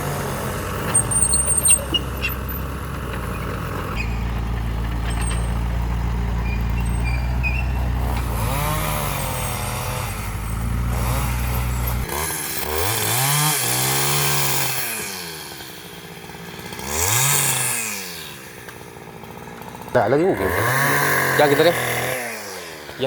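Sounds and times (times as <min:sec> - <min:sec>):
vehicle engine revving: 0:00.0 - 0:15.7, 0:16.4 - 0:18.6, 0:19.3 - 0:23.0.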